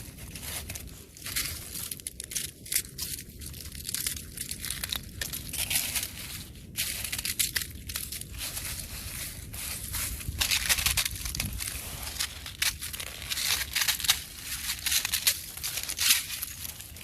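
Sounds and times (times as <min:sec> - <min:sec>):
thin ice crunching and crackling: 0:00.0 - 0:17.0.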